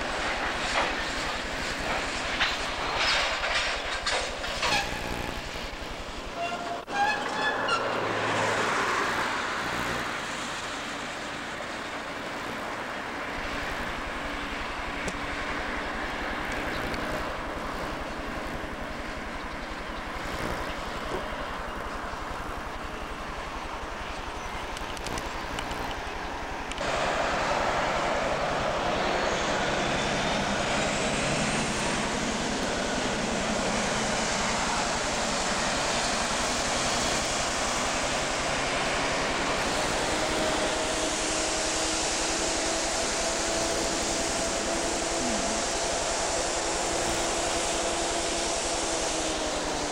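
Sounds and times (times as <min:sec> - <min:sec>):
freight train rolling on rails: 0:00.0 - 0:49.9.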